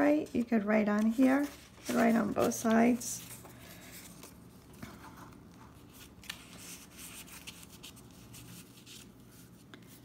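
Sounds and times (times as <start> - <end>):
paper and card rustling: 0.0 - 10.0.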